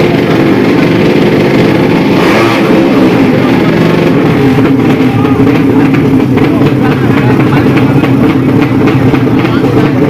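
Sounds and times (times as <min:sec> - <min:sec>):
motorcycle engines running loud: 0:00.0 - 0:10.0.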